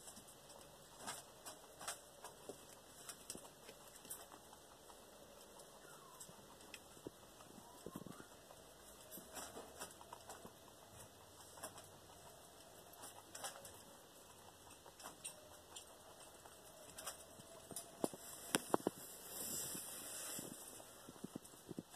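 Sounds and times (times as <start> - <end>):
rabbits munching grass: 0.0 - 21.9.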